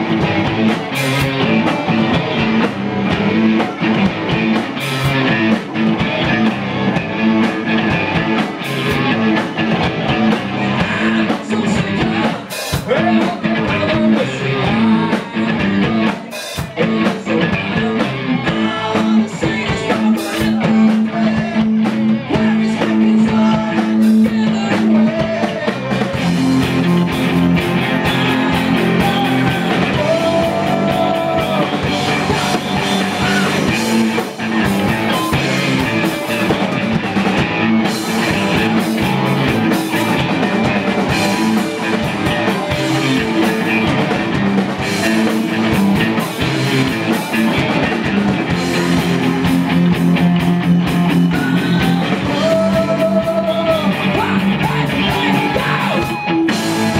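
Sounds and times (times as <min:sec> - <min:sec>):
bass guitar: 0:00.0 - 0:56.9
distorted electric guitars: 0:00.0 - 0:56.9
drum kit: 0:00.0 - 0:56.9.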